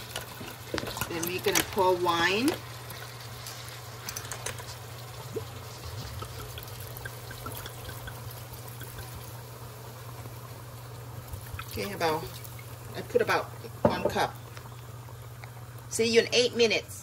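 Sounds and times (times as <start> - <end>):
wine pouring over clams: 0.0 - 15.9.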